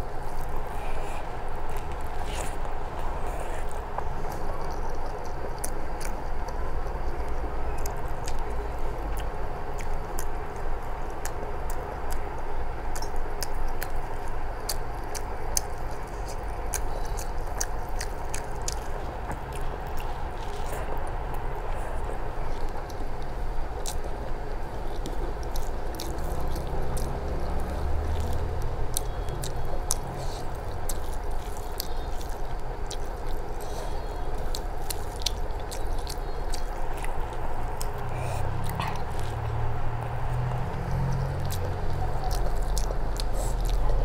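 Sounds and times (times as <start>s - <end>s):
steady background hum: 0.0s - 44.0s
wet chewing and mouth clicks: 0.0s - 44.0s.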